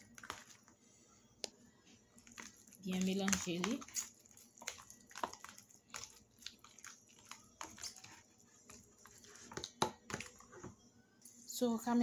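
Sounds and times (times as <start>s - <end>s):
wet batter squishing: 0.0s - 10.7s.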